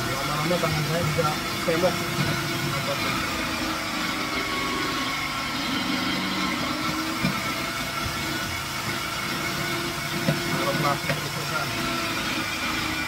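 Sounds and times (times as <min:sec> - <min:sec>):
grating machine motor whirring: 0:00.0 - 0:13.0.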